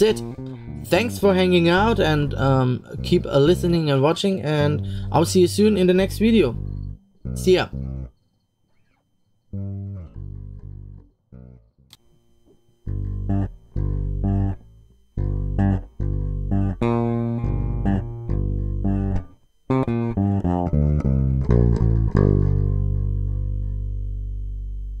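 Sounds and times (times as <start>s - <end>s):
plucked guitar-like notes: 0.0s - 8.1s, 9.6s - 25.0s.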